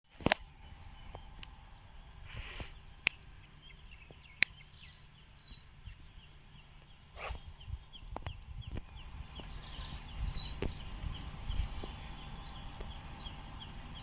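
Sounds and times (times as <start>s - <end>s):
faint bird chirps: 0.4s - 14.0s.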